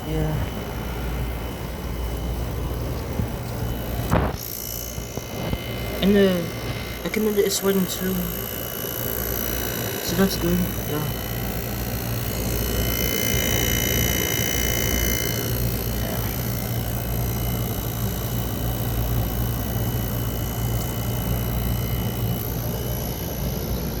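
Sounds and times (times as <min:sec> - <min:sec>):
air conditioner compressor hum: 0:00.0 - 0:24.0
high whine: 0:00.0 - 0:24.0.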